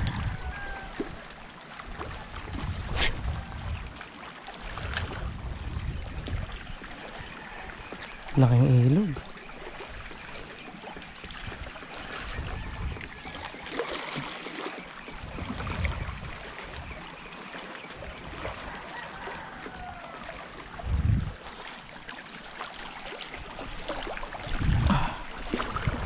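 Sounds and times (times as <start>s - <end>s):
wind rumbling on microphone: 0.0s - 10.4s, 11.0s - 13.5s, 15.0s - 17.0s, 18.0s - 21.7s, 23.4s - 26.0s
water flowing and lapping: 0.0s - 26.0s.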